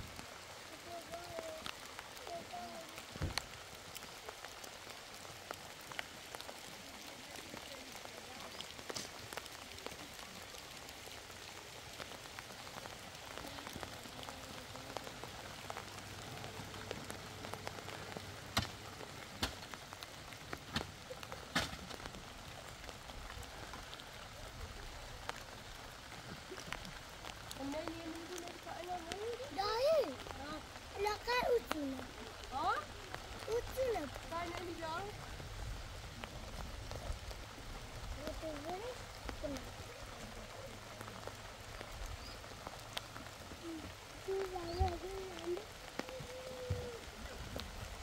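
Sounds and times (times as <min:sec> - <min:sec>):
light rain pattering: 0:00.0 - 0:48.0.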